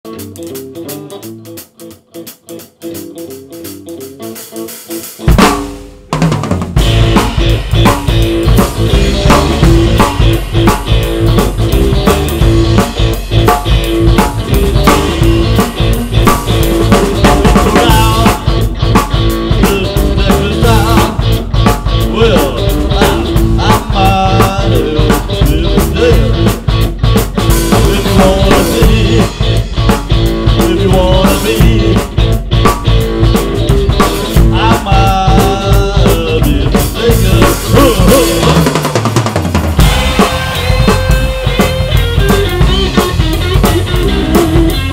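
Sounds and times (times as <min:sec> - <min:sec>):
rock band playing: 0:00.0 - 0:44.9
loud drum hit: 0:05.2 - 0:44.9.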